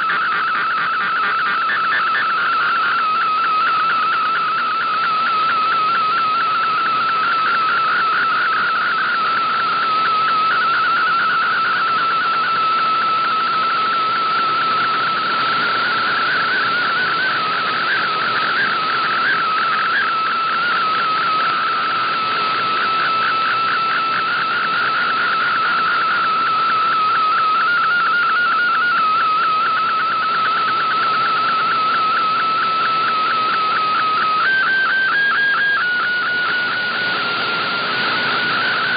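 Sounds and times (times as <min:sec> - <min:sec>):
radio band noise hiss: 0:00.0 - 0:38.9
warbling digital radio tone: 0:00.0 - 0:38.9.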